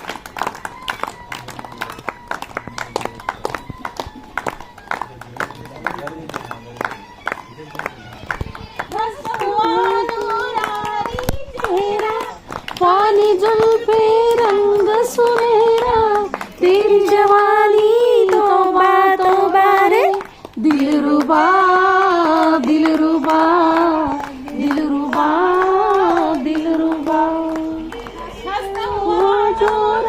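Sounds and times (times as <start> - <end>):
hand claps: 0.0 - 30.0.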